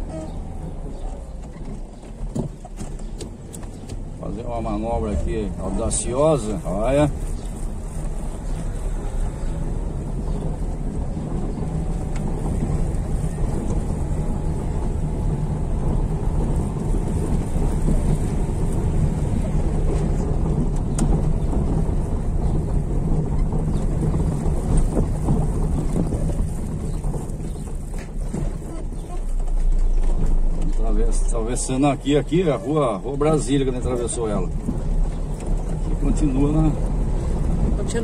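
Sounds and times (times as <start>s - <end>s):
car rumbling over paving blocks: 0.0s - 38.0s.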